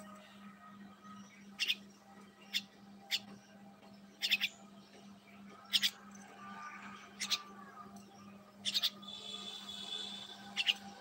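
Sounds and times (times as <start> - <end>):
small bird chirping: 1.0 - 6.3, 7.1 - 11.0.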